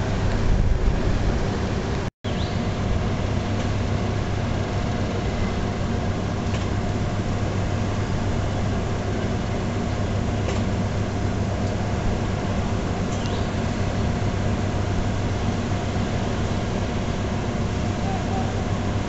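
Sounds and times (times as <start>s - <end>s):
machinery drone with low hum: 0.0s - 19.0s.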